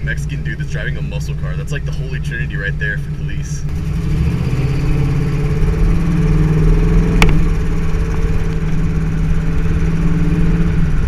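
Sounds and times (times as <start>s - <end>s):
car engine exhaust rumbling: 0.0s - 11.0s.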